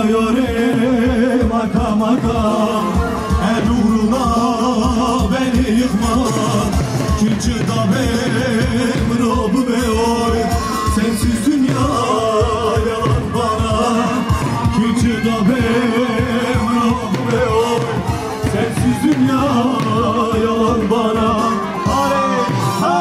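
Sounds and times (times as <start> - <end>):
live dance music: 0.0 - 23.0
person singing: 0.0 - 23.0
steady drum beat: 0.0 - 23.0.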